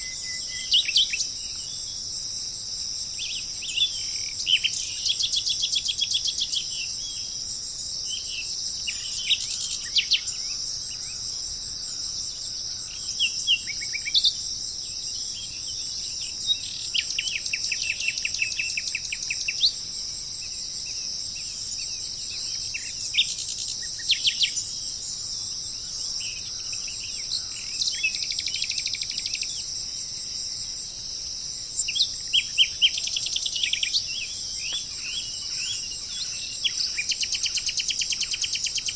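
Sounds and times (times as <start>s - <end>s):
small birds chirping: 0.0s - 2.2s, 3.0s - 31.0s, 31.6s - 38.9s
high-pitched insect drone: 0.0s - 38.9s.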